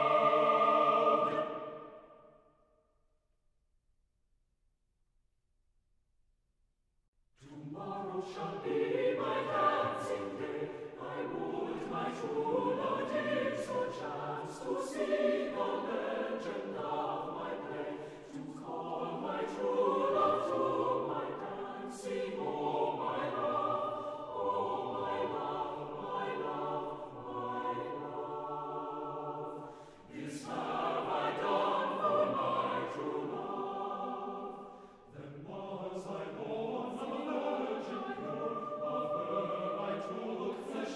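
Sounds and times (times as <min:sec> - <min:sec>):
choir singing: 0:00.0 - 0:02.3, 0:07.4 - 0:40.9.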